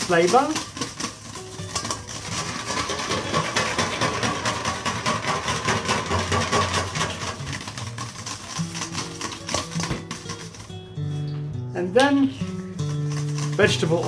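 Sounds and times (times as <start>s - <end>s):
whisk beating in metal bowl: 0.0s - 10.9s, 12.5s - 14.0s.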